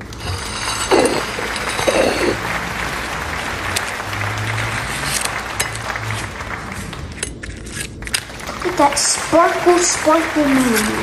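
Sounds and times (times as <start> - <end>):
applause: 1.1 - 7.2, 8.2 - 11.0.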